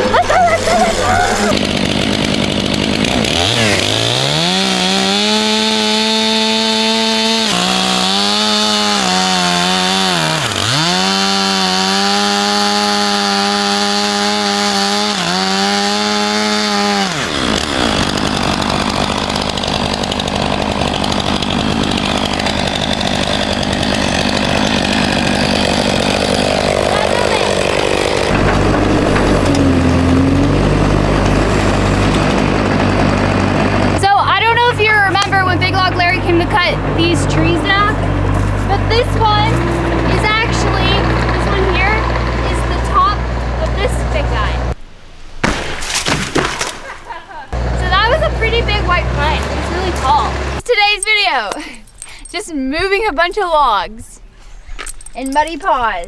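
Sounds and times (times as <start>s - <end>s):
chainsaw cutting logs: 0.0s - 52.3s.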